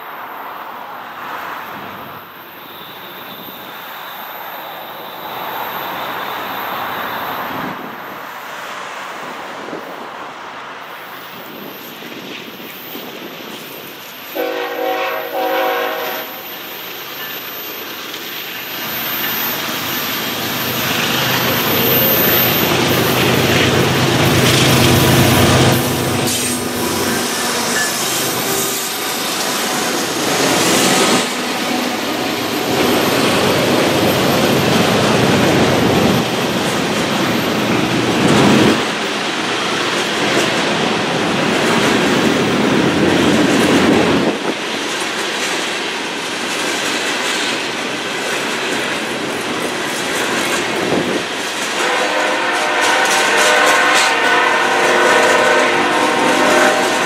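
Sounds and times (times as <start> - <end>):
diesel locomotives passing: 0.0 - 57.0
wheels rumbling and clattering on rails: 0.0 - 57.0.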